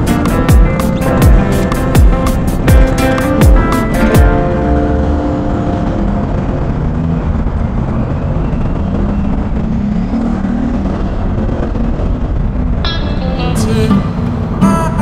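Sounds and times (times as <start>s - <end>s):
faint engine hum: 0.0s - 15.0s
road vehicle rumble: 0.0s - 15.0s.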